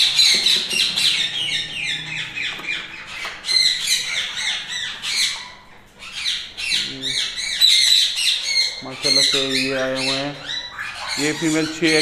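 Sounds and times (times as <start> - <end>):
parakeet squawking: 0.0 - 12.0.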